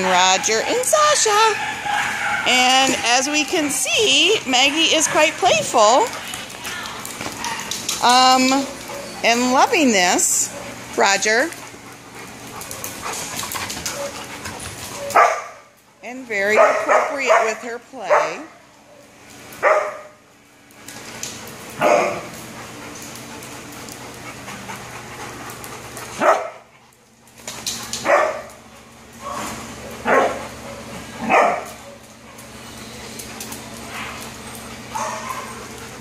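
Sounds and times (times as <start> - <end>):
dogs play barking: 0.0 - 36.0.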